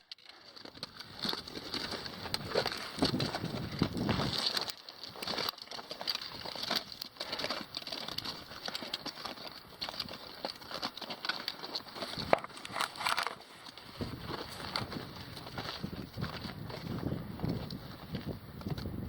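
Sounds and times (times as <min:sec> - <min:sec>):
boot footsteps crunching on trail: 0:00.0 - 0:19.0.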